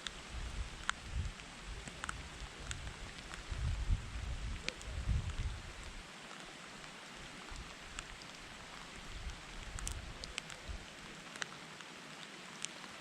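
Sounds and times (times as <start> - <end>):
raindrops ticking close by: 0.0 - 13.0
steady rain hiss: 0.0 - 13.0.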